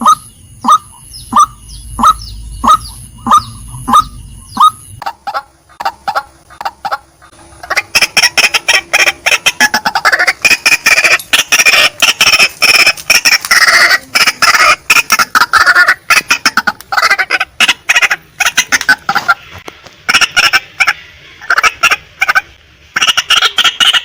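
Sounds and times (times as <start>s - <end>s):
waterhen calling: 0.0s - 24.0s.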